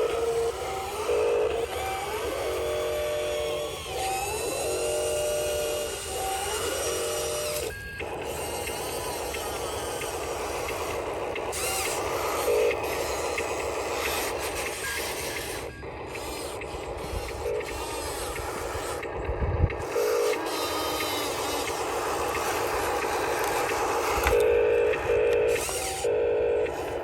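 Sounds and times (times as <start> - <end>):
small electric motors whining: 0.0 - 27.0.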